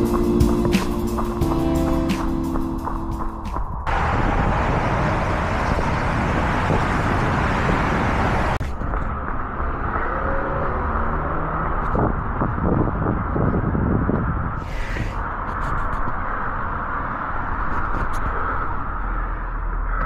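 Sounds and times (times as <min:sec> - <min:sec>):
highway traffic rushing: 0:00.0 - 0:20.0
street traffic hum: 0:00.0 - 0:20.0.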